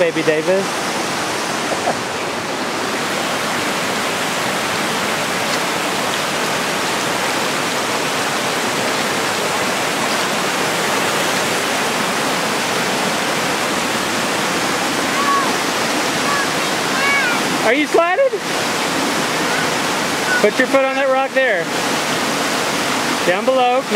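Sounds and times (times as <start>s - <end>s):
creek water rushing: 0.0s - 23.9s.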